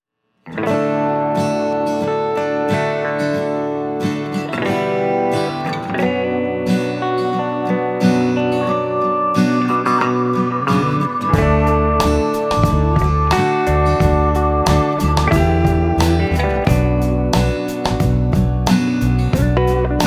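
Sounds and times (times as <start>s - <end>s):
strummed acoustic guitar music: 0.5s - 20.0s.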